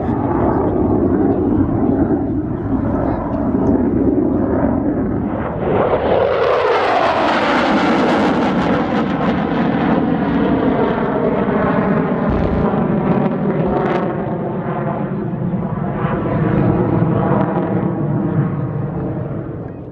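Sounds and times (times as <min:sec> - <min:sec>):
jet engine roar: 0:00.0 - 0:19.9.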